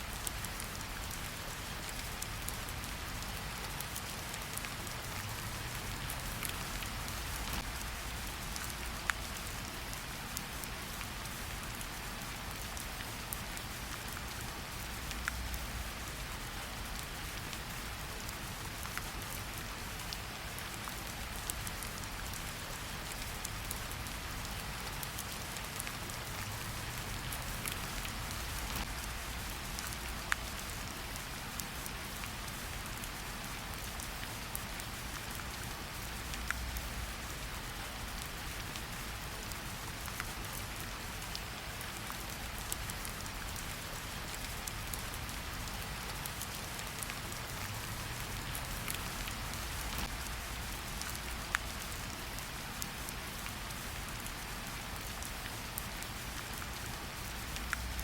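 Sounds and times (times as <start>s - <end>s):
rain pattering in forest: 0.0s - 58.0s
raindrops ticking close by: 0.0s - 58.0s.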